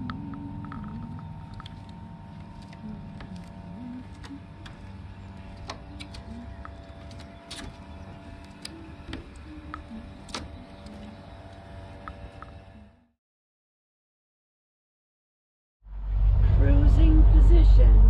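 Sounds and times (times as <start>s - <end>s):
mechanical hum with tones: 0.0s - 13.2s, 15.9s - 18.0s.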